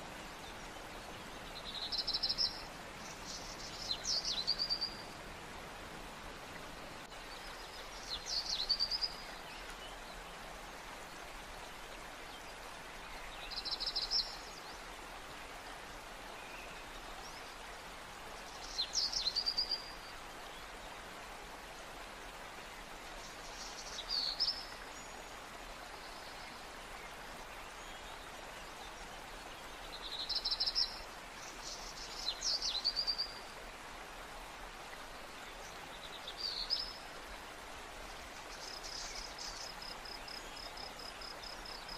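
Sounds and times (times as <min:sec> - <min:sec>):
background hiss: 0:00.0 - 0:41.9.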